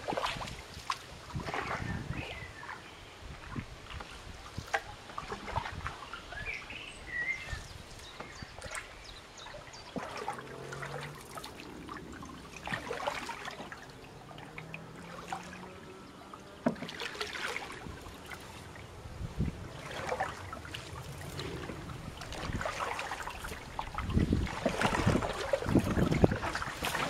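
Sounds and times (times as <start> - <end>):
paddle splashing through water: 0.0 - 27.0
water trickling: 3.4 - 27.0.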